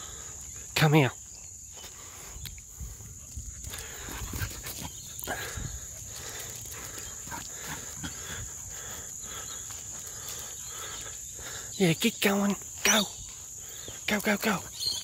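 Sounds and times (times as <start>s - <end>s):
crickets chirring: 0.0s - 15.0s
dog footsteps on grass: 0.0s - 15.0s.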